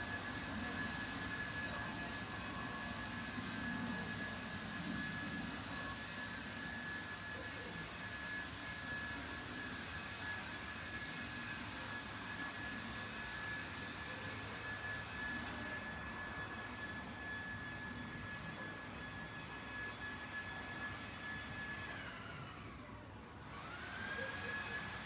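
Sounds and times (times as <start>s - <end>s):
jet engines rumbling: 0.0s - 22.8s
faint steady high whine: 0.0s - 25.0s.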